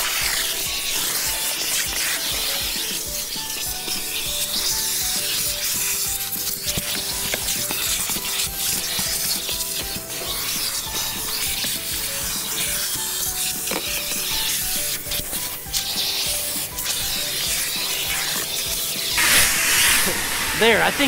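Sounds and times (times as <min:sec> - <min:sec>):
light background music: 0:00.0 - 0:21.0
nozzle scraping rubber mat: 0:00.0 - 0:21.0
vacuum hose hissing: 0:00.0 - 0:21.0.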